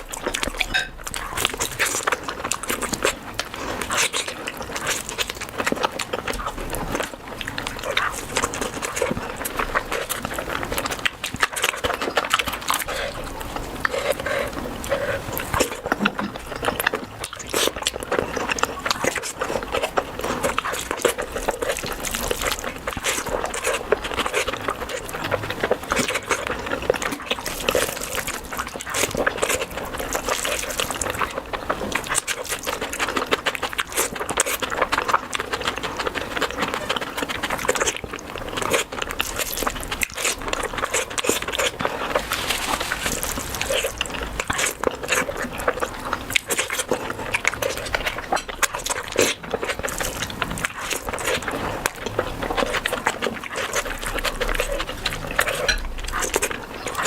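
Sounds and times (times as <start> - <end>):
person chewing and lip-smacking: 0.0 - 57.0.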